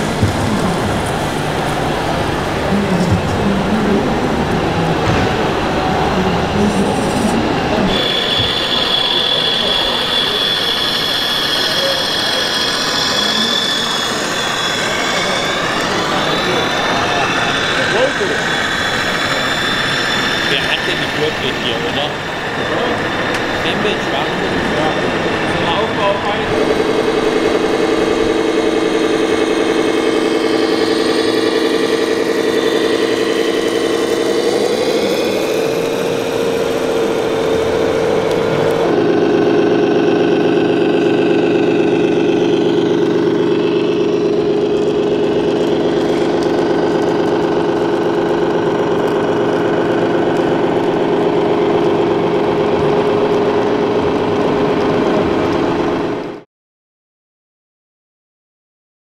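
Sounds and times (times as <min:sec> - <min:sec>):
simulated diesel truck engine: 0:00.0 - 0:56.4.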